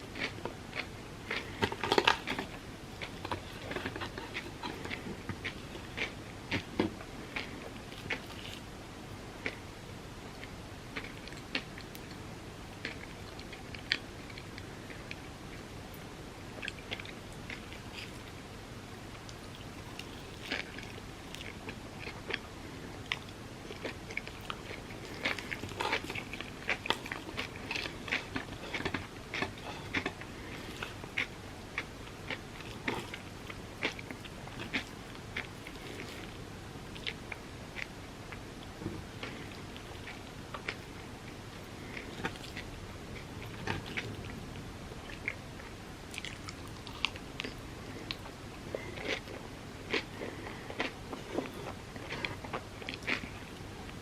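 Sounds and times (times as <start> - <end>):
biting and chewing food: 0.0 - 8.7, 12.8 - 15.7, 16.5 - 18.4, 19.1 - 54.0.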